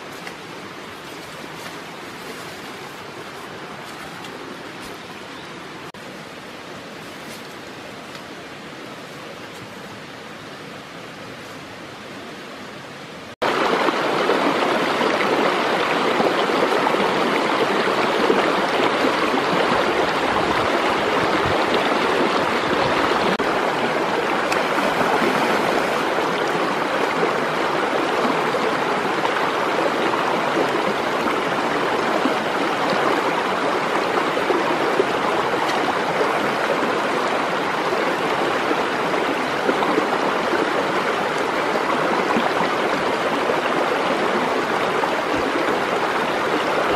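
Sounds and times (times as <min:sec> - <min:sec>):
stream rushing over stones: 0:00.0 - 0:46.9.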